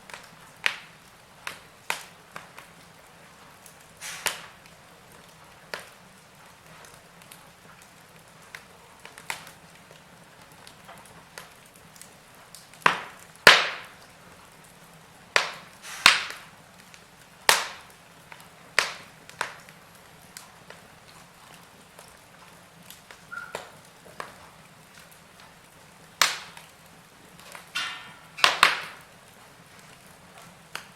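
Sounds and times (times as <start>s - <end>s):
faint hiss: 0.0s - 30.9s
wood fire crackling: 0.0s - 30.9s.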